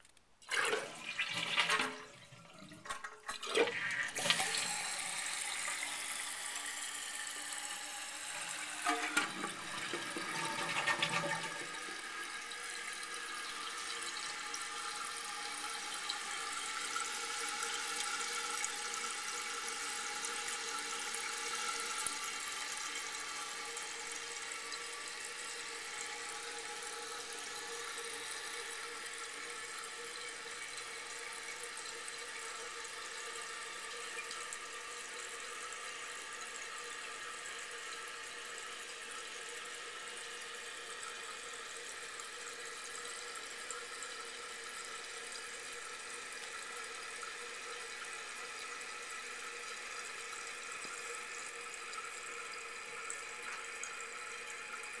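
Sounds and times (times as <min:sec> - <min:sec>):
toilet flushing: 0:00.4 - 0:55.0.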